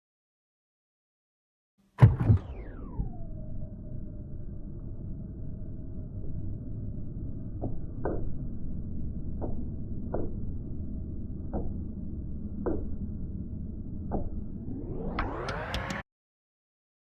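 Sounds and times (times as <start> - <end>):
low rumble: 2.0 - 16.0.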